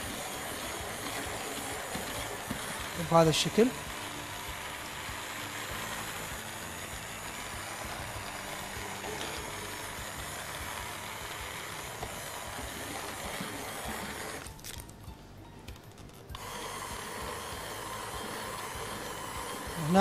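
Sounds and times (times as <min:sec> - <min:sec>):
hand blender running in pot: 0:00.0 - 0:14.8, 0:16.3 - 0:20.0.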